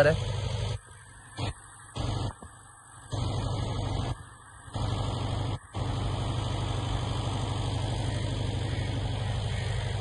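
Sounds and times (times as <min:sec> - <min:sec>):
diesel locomotive drone and rumble: 0:00.0 - 0:10.0.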